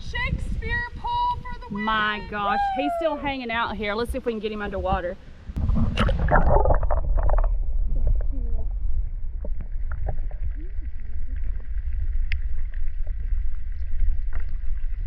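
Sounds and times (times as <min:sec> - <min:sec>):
underwater low rumble: 0:00.0 - 0:15.0.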